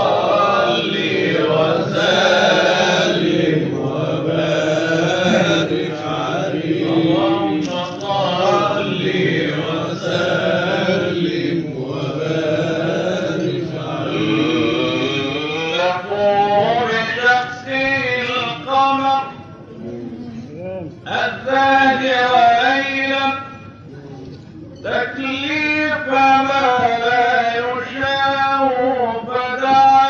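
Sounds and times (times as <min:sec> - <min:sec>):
man chanting devotional song: 0:00.0 - 0:24.3, 0:24.9 - 0:30.0.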